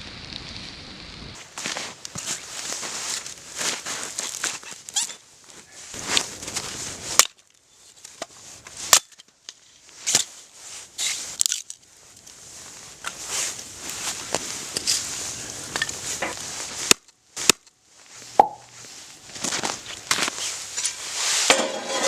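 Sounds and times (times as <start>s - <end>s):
campfire crackling and popping: 0.0s - 10.0s, 10.9s - 21.2s.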